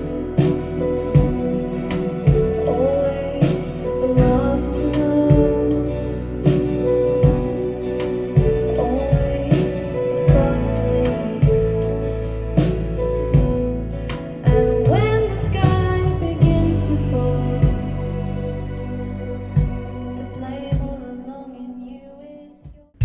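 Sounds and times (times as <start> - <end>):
instrumental music over loudspeakers: 0.0 - 21.2.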